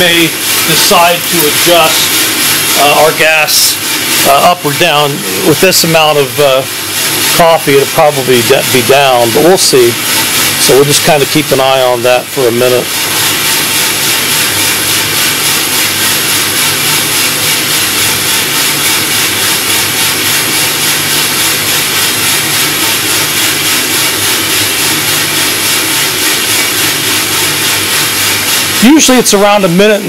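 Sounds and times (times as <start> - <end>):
coffee roaster running: 0.0 - 30.0.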